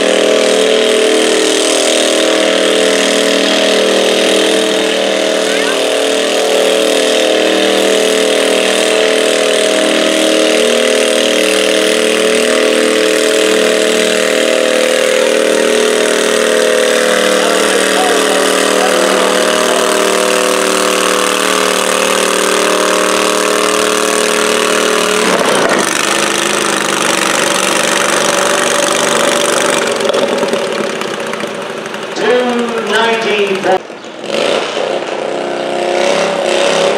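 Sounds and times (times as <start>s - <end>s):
small tractor engine under load: 0.0s - 36.9s.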